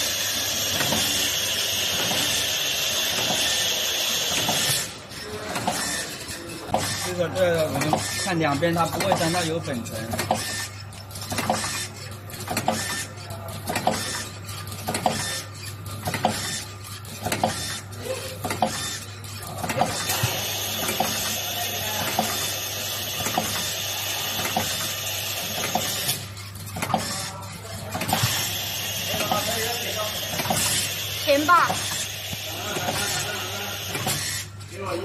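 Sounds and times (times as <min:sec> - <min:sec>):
machine clacking: 0:00.0 - 0:34.7
machine motor hum: 0:00.0 - 0:35.0.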